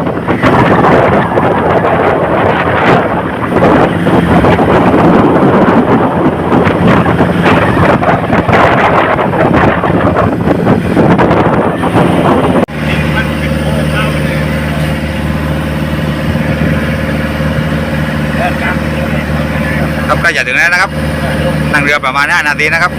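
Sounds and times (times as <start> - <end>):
boat engine humming: 0.0 - 22.9
wind buffeting microphone: 0.0 - 22.9.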